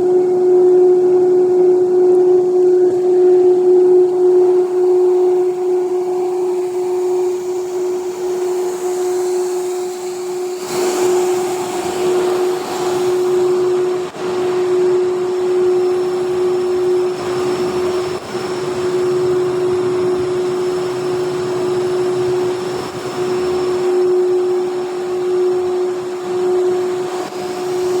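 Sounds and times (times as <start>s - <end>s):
extruder machine humming: 0.0s - 28.0s.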